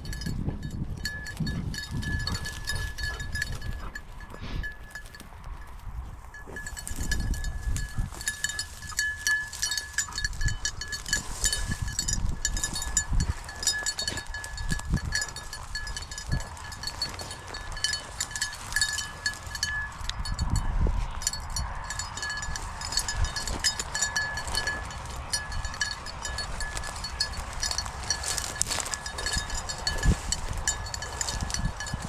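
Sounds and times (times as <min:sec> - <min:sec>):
small collar bell jingling: 0:00.0 - 0:32.0.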